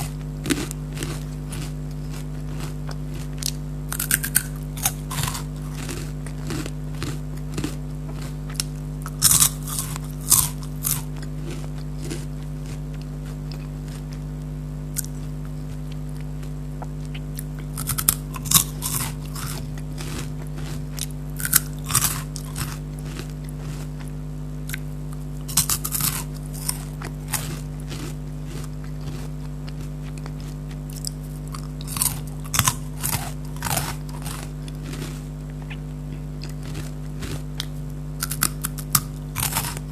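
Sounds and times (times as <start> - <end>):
crunchy snacks being chewed: 0.0 - 39.9.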